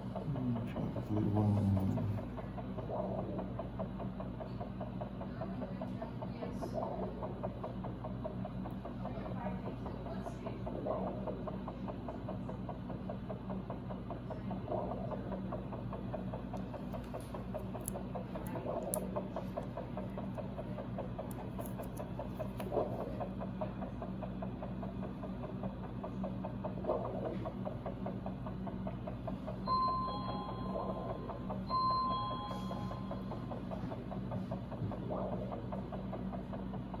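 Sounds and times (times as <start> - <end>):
throbbing equipment hum: 0.0 - 37.0.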